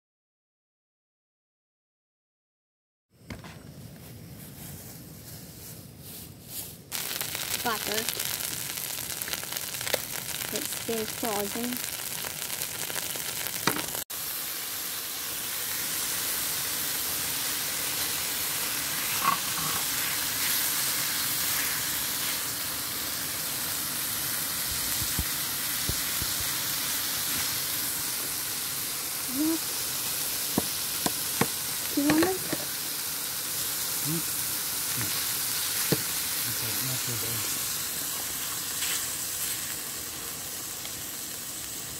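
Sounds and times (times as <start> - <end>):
butter sizzling in a pan: 6.9 - 41.9.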